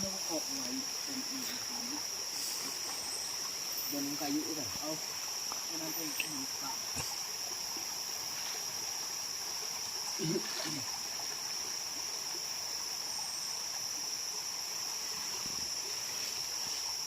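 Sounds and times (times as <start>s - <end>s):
high-pitched insect drone: 0.0s - 17.0s
stream water running: 0.0s - 17.0s.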